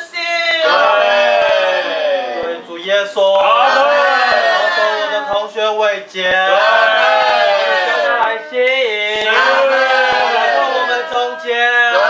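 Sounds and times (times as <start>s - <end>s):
men praying aloud in chorus: 0.0s - 12.0s.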